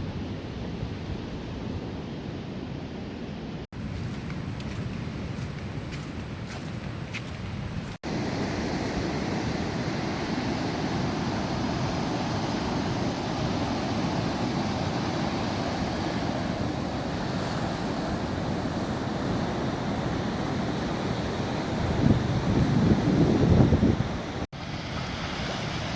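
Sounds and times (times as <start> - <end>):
ocean surf roaring: 0.0 - 25.9.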